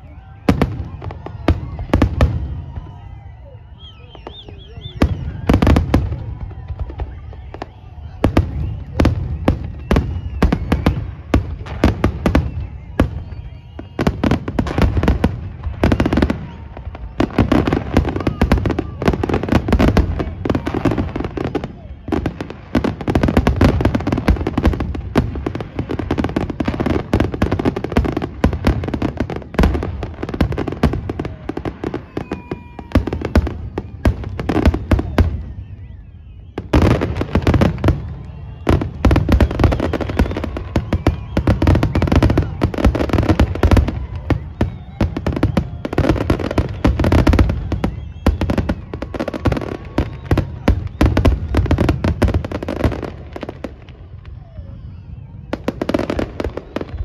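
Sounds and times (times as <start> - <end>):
fireworks bangs and crackle: 0.0 - 57.0.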